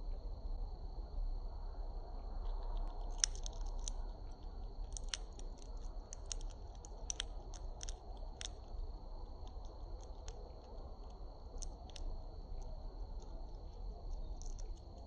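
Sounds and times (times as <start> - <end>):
bird cracking seed shells: 2.4 - 15.0.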